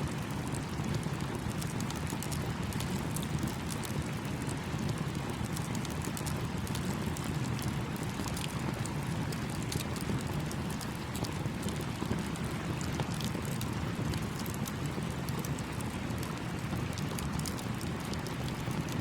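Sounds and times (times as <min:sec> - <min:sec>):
campfire crackling and popping: 0:00.2 - 0:19.0.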